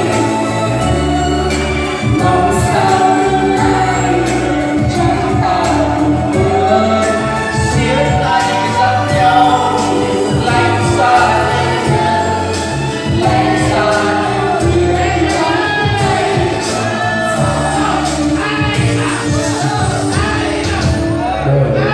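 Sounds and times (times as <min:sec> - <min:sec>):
backing track with steady beat: 0:00.0 - 0:21.9
man and woman singing duet: 0:00.0 - 0:21.9.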